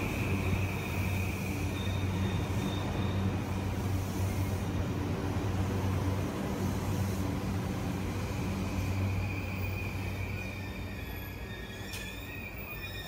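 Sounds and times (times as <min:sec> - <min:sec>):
train braking whine: 0:00.0 - 0:13.0.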